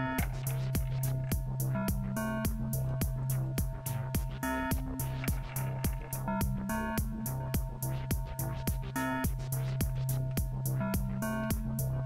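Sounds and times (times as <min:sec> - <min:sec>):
electronic music with fast drum beat: 0:00.0 - 0:12.0.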